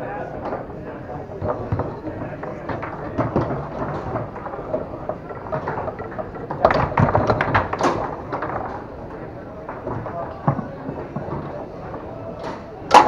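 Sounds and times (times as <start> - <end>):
foosball ball clacking: 0.4 - 13.0
foosball rods knocking: 0.4 - 13.0.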